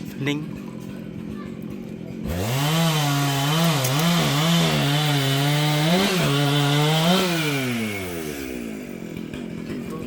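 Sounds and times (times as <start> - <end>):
chainsaw cutting wood: 0.8 - 10.0.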